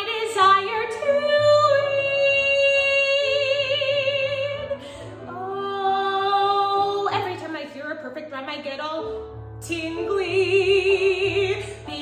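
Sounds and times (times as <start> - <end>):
woman singing with vibrato: 0.0 - 7.9, 9.6 - 12.0.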